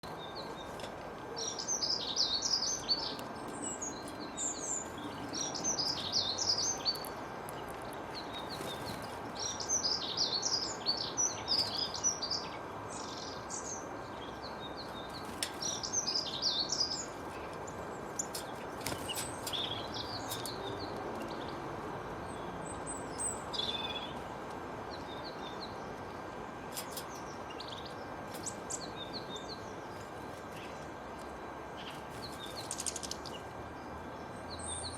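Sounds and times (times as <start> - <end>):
small songbirds chirping: 0.0 - 34.9
steady background hiss: 0.0 - 34.9.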